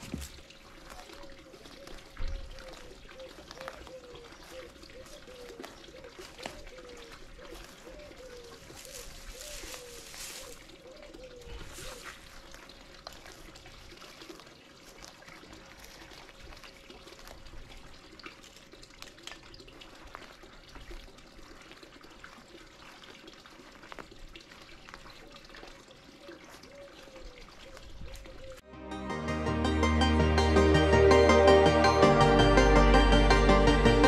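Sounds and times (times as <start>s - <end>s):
faint trickle of running water: 0.0s - 28.6s.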